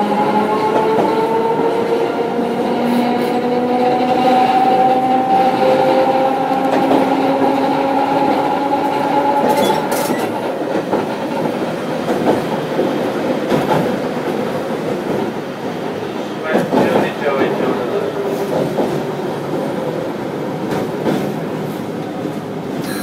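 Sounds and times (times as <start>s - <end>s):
streetcar motor and gear whine: 0.0s - 23.0s.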